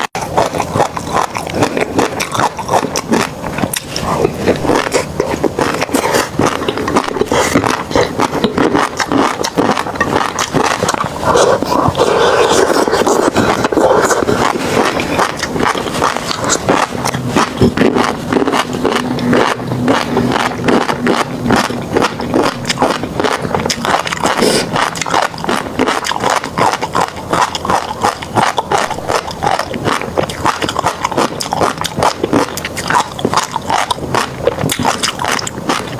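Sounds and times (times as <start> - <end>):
chewing fish roe crackle: 0.0 - 35.9.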